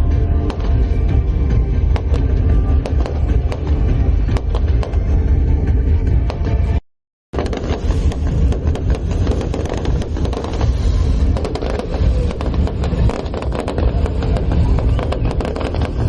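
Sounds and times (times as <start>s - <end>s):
low rumble: 0.0s - 6.8s, 7.4s - 16.0s
firework bangs and crackles: 0.0s - 16.0s.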